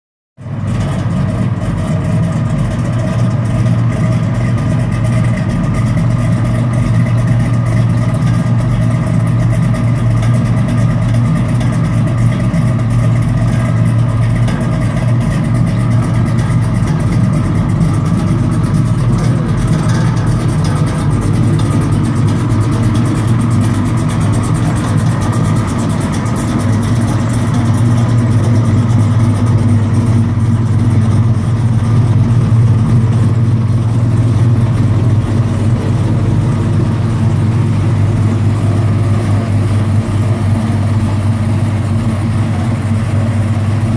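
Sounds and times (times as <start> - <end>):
car engine idling: 0.4 - 43.9.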